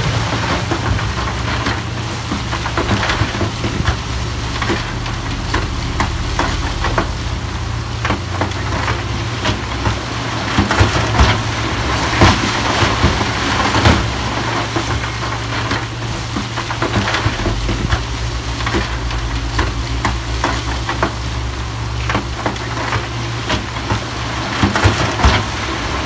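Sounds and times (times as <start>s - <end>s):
crackling and clatter: 0.0s - 26.0s
diesel engine running: 0.0s - 26.0s.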